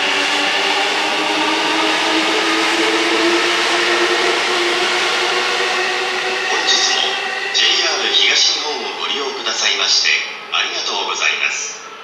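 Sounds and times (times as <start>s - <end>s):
electric train rushing and humming: 0.0s - 12.0s.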